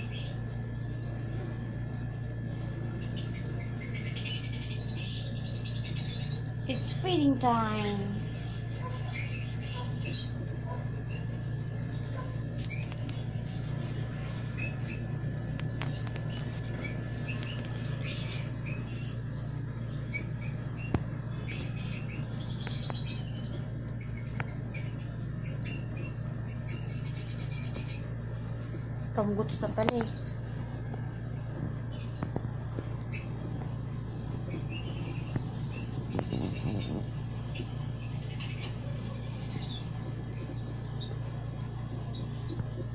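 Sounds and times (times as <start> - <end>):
birds chirping squeakily: 0.0 - 42.9
steady low hum: 0.0 - 42.9.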